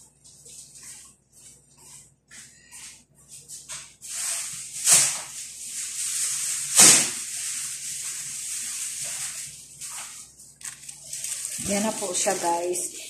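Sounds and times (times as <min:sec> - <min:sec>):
plastic rustling and crinkling: 0:00.1 - 0:13.0.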